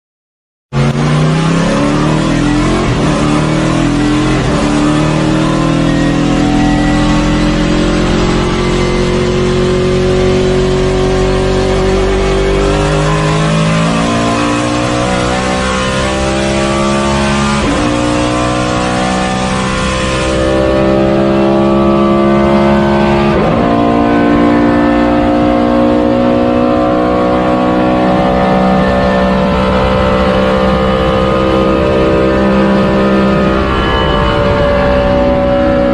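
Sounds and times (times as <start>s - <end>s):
race car engine accelerating: 0.8s - 35.9s.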